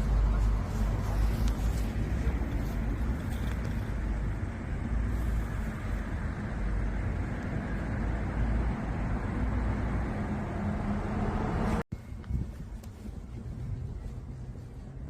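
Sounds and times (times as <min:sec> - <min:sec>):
bicycle road noise: 0:00.0 - 0:15.0
wind rumble on microphone: 0:00.0 - 0:15.0.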